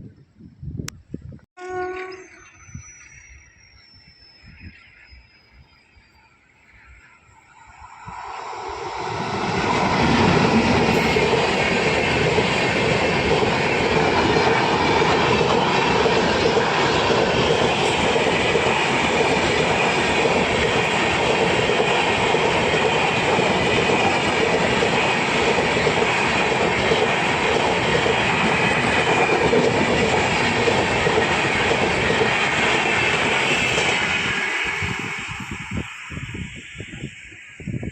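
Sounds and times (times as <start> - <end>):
train passing at high speed: 2.3 - 37.9.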